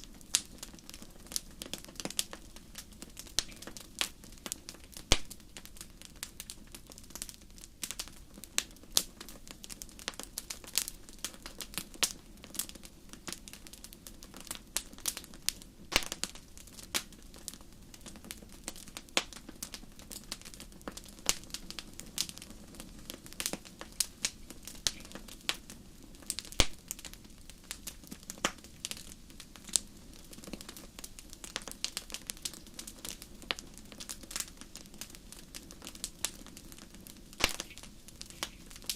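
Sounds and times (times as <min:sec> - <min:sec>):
fire crackling in a fireplace: 0:00.0 - 0:38.9.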